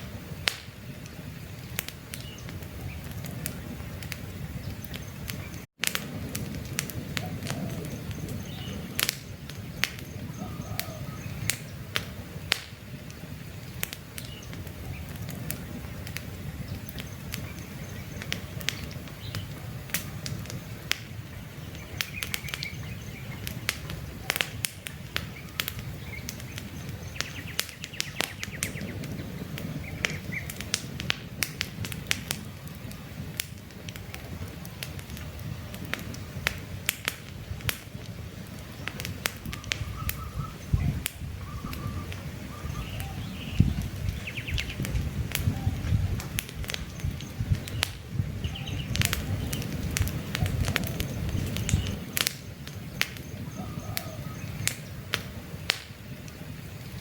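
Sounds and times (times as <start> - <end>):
campfire crackling and popping: 0.0 - 57.0
low rumble of flame: 0.0 - 57.0
birds chirping: 0.3 - 5.7, 6.9 - 31.0, 31.8 - 57.0.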